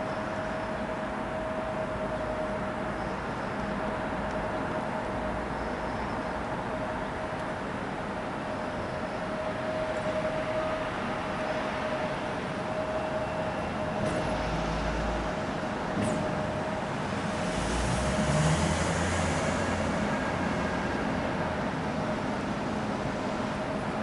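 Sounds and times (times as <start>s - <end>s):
jet engine whine: 0.0s - 24.0s.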